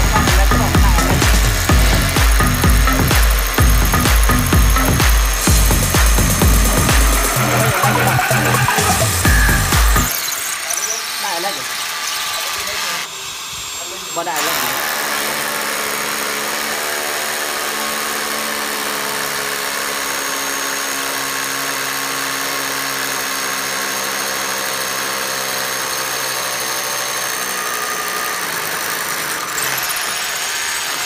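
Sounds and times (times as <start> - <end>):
rotary hammer drilling into tile: 0.0 - 31.0.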